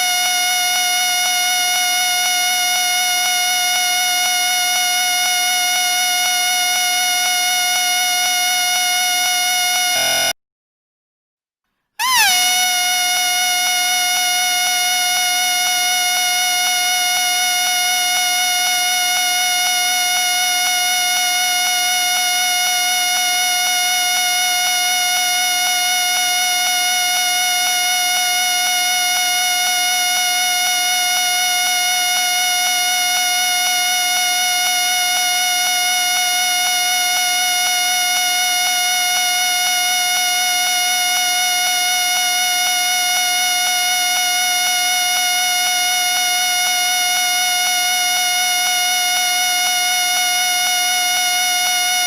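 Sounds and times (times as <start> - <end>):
whistle steady tone: 0.0 - 10.4, 12.0 - 52.0.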